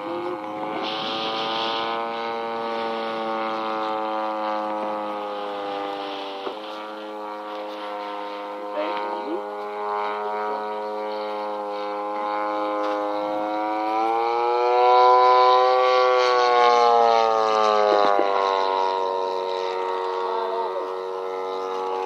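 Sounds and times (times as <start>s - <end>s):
model plane engine buzzing: 0.0s - 22.0s.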